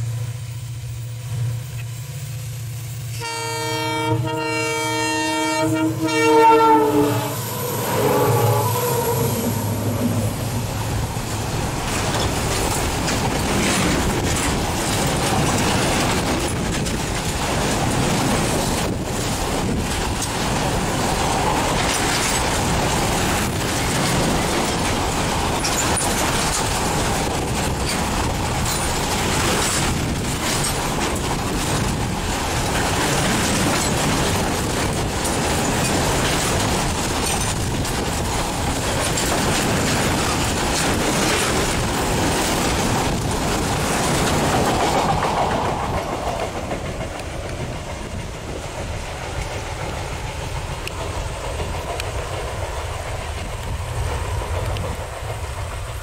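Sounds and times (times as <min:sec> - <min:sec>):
train wheels rumbling on rails: 0:00.0 - 0:56.0
wheels clacking over rail joints: 0:08.6 - 0:56.0.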